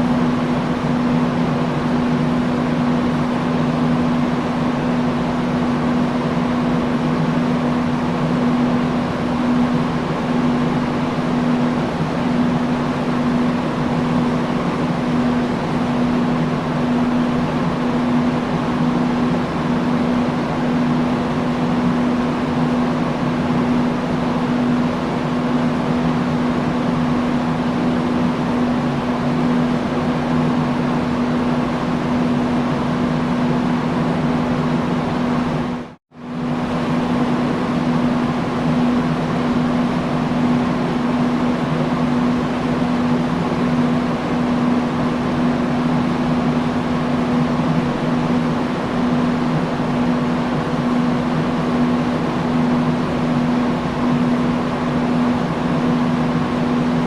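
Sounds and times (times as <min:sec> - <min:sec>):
industrial fan air rushing: 0:00.0 - 0:57.0
low motor hum: 0:00.0 - 0:57.0.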